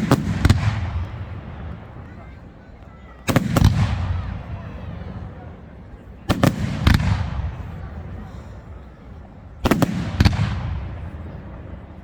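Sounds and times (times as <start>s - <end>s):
fireworks bangs with rumbling echo: 0.0s - 2.4s, 3.2s - 8.5s, 9.5s - 12.0s.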